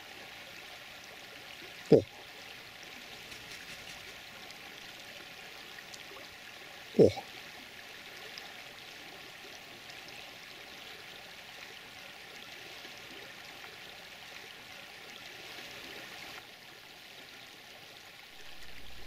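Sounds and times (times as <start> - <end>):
faint running water: 0.0 - 19.0.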